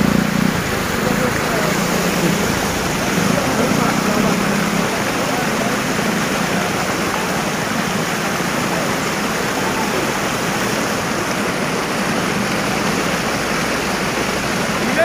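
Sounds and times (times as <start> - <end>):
bus wading through water: 0.0 - 15.0
floodwater rushing across road: 0.0 - 15.0.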